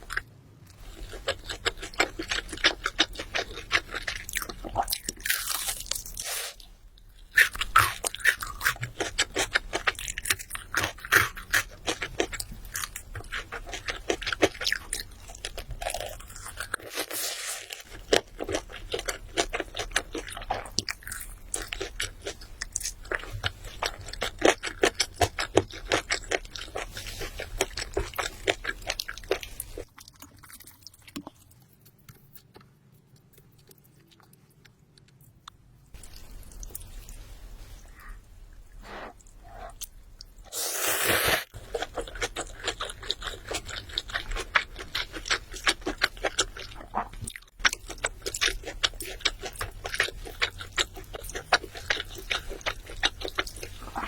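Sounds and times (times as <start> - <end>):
fried chicken crunching: 0.0 - 6.6, 7.3 - 36.9, 41.2 - 54.0.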